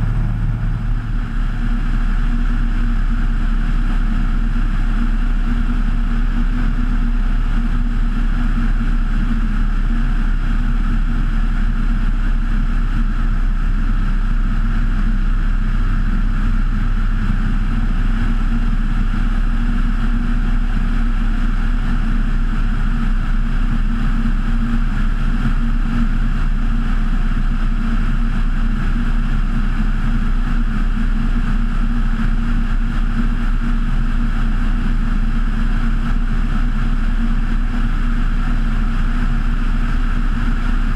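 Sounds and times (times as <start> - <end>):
plane engine and propeller drone: 0.0 - 40.9.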